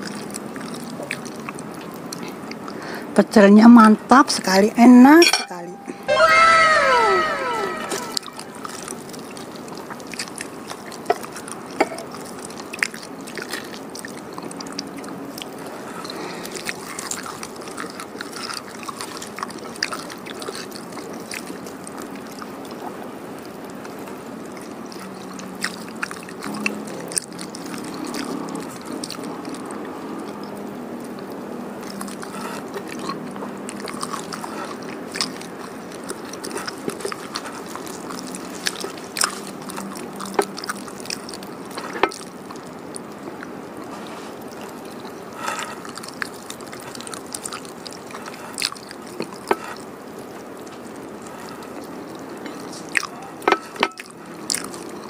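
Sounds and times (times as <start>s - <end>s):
person chewing food: 0.0s - 2.8s, 6.3s - 55.0s.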